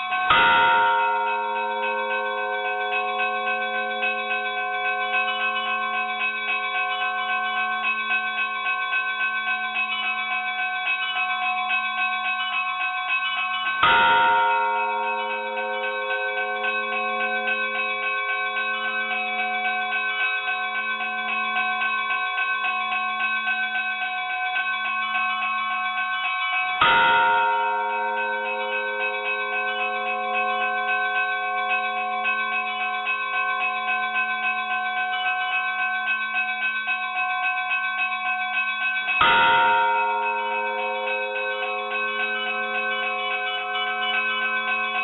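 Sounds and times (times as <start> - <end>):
church bells ringing: 0.0 - 45.0.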